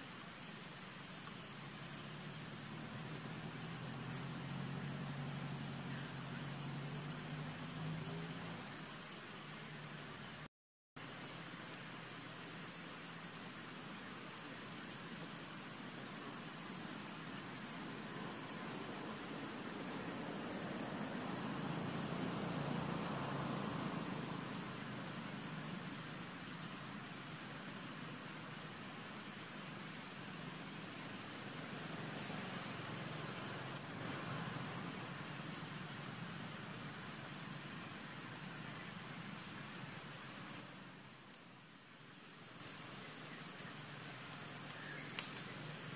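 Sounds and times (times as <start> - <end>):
insect chorus trilling: 0.0 - 45.9
soft outdoor ambience: 0.0 - 45.9.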